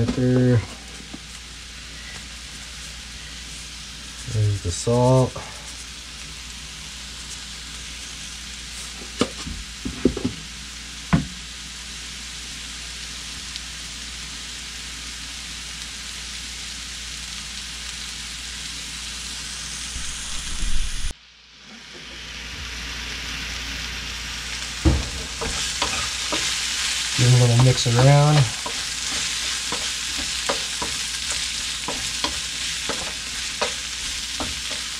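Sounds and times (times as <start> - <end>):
mushrooms sizzling in a frying pan: 0.0 - 34.9.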